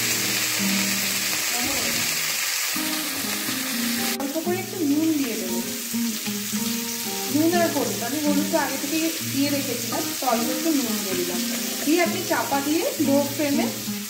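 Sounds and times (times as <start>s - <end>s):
background music: 0.0s - 14.0s
vegetables sizzling in oil: 0.0s - 14.0s.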